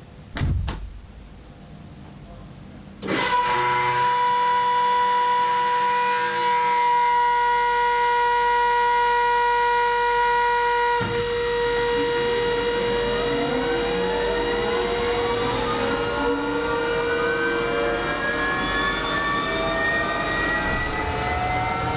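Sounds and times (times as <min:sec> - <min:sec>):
turbine whine rising in pitch: 0:03.0 - 0:21.9.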